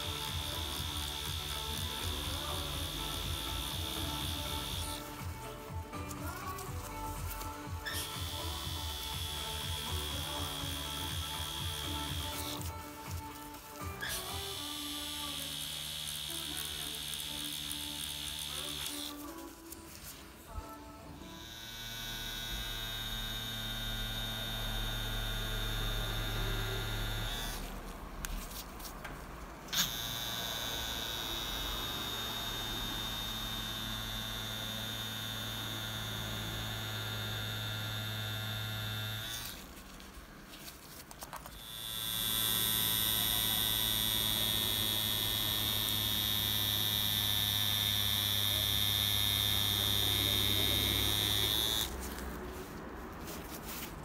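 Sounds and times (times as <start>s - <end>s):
tattoo machine buzzing: 0.0s - 19.5s, 21.2s - 28.0s, 29.7s - 39.8s, 41.5s - 52.2s.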